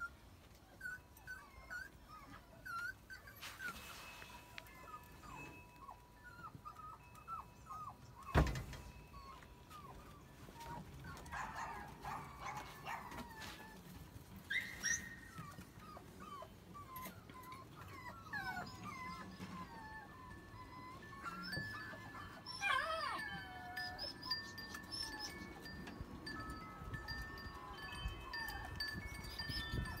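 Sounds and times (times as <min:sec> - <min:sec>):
puppies whimpering and yipping: 0:00.0 - 0:30.0.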